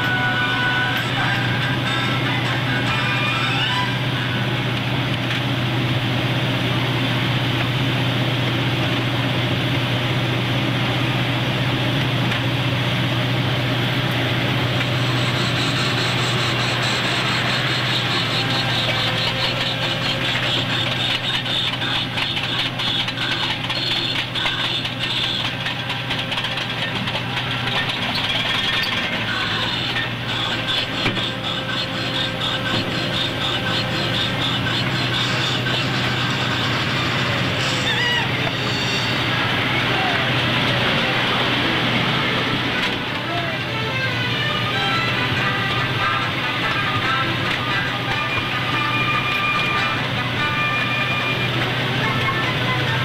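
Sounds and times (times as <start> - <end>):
locomotive engine drone: 0.0 - 53.0
train cars clicking and rattling: 0.0 - 53.0.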